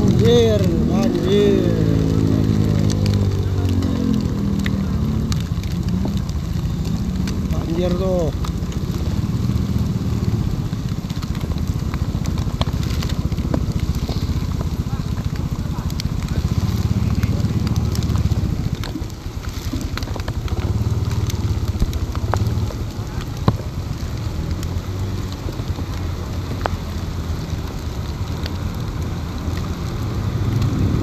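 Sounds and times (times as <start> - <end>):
heavy rain falling: 0.0 - 31.0
raindrops ticking close by: 0.0 - 31.0.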